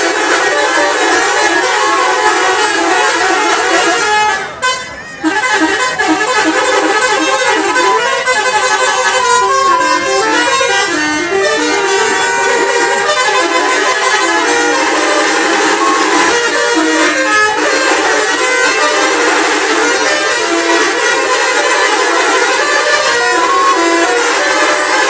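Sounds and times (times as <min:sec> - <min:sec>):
bus musical horn melody: 0:00.0 - 0:25.0.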